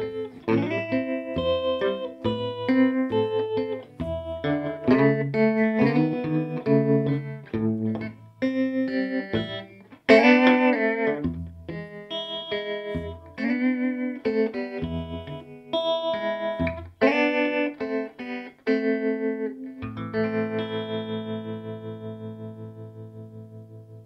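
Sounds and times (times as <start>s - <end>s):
electric guitar music: 0.0s - 24.0s.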